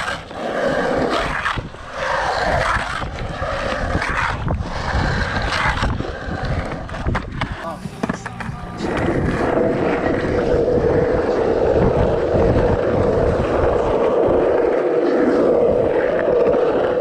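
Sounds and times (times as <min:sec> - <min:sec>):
skateboard wheels rolling on concrete: 0:00.0 - 0:17.0.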